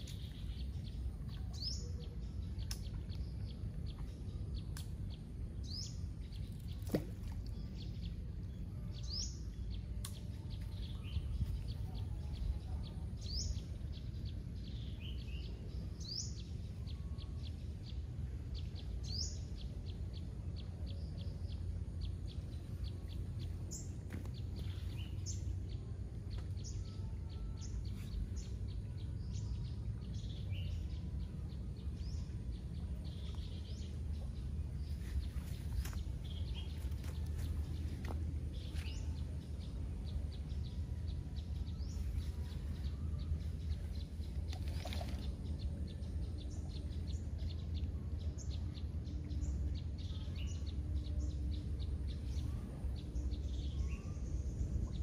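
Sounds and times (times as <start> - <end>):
birds chirping: 0.0 - 55.0
steady low rumble: 0.0 - 55.0.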